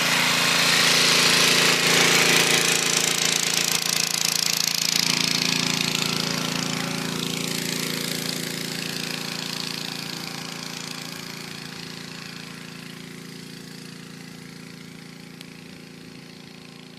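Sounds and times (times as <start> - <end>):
petrol engine running: 0.0 - 16.9.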